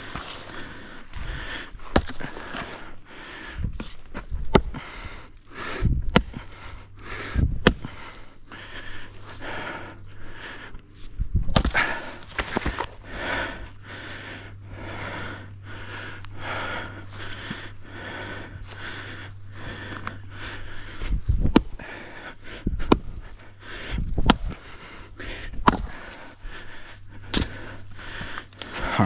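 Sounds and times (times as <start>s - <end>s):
fast heavy breathing: 0.0s - 29.0s
steady low hum: 0.0s - 29.0s.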